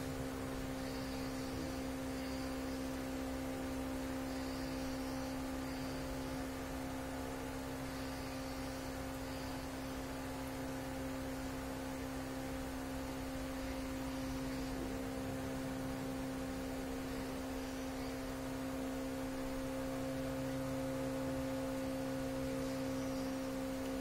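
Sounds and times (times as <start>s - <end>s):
faint hiss: 0.0s - 24.0s
two-tone hum: 0.0s - 24.0s.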